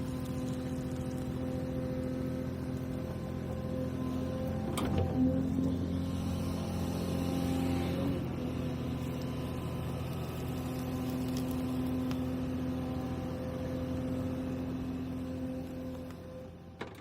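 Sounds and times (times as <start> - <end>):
excavator engine running: 0.5 - 17.0.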